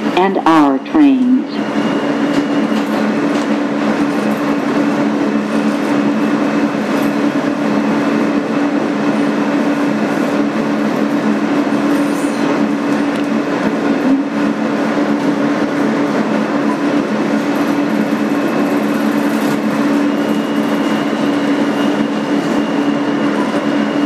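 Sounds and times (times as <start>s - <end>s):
subway car rumble and hiss: 0.0s - 24.0s.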